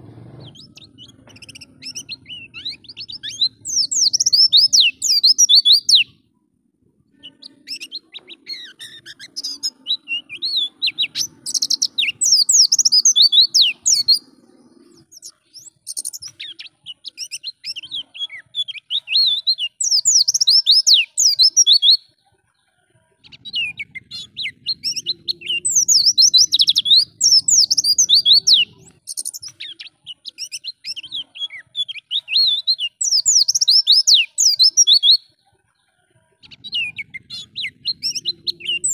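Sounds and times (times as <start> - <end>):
bird twittering song: 0.0 - 6.3, 7.1 - 38.9.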